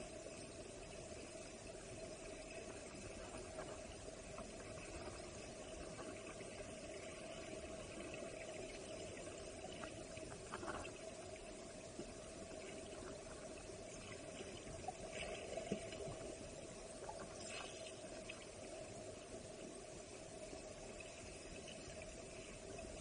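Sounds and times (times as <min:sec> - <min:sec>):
muffled underwater water rush: 0:00.0 - 0:23.0.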